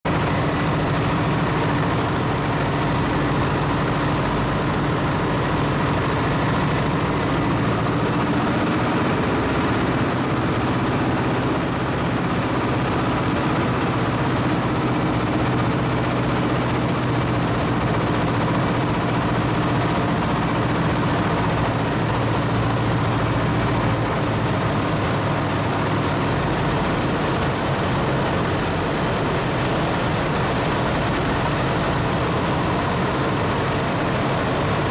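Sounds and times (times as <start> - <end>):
propeller plane engine droning: 0.1 - 34.9.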